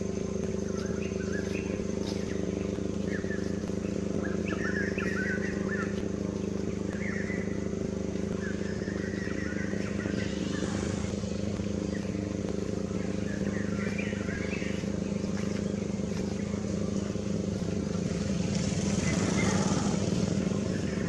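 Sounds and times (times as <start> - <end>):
engine idling: 0.0 - 21.0
high chirping calls: 0.0 - 21.0.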